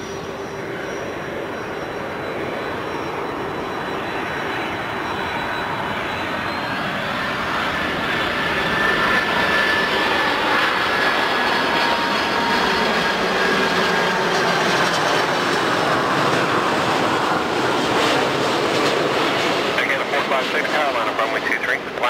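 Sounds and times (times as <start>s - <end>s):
jet airliner flying past: 0.0s - 22.0s.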